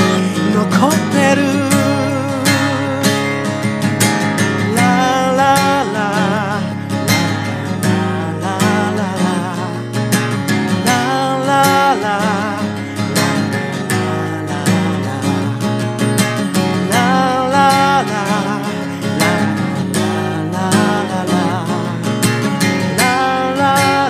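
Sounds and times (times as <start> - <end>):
acoustic guitar strumming: 0.0 - 24.0
man singing with vibrato: 0.0 - 24.0.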